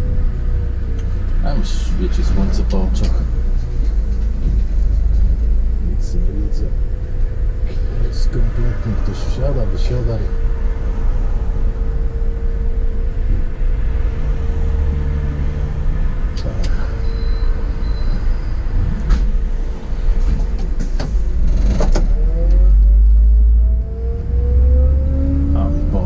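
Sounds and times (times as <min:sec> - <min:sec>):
bus engine and road rumble: 0:00.0 - 0:26.0
constant whine: 0:00.0 - 0:26.0.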